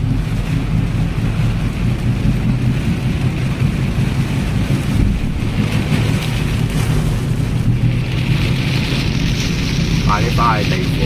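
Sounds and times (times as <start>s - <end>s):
car driving rumble: 0.0s - 11.0s
heavy rain: 0.0s - 11.0s
wind: 0.0s - 11.0s.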